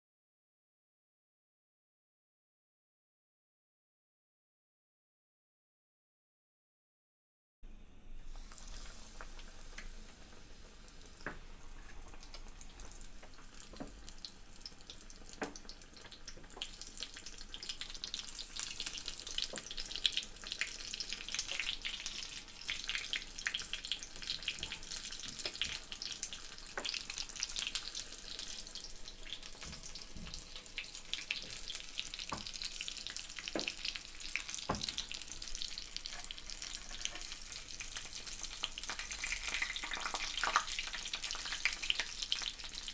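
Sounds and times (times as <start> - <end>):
potato slices deep-frying in oil: 8.3 - 42.9.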